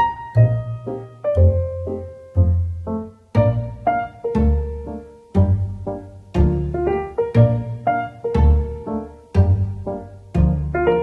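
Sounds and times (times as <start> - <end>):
plucked-string and piano music: 0.0 - 11.0.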